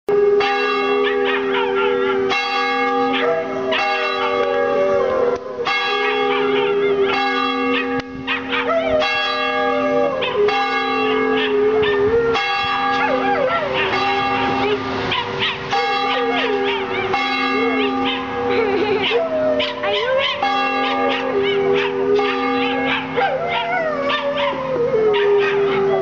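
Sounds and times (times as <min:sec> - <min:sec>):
dog howling: 0:00.1 - 0:26.0
church bell tolling: 0:00.2 - 0:04.9, 0:05.6 - 0:11.5, 0:12.3 - 0:18.6, 0:19.8 - 0:23.8.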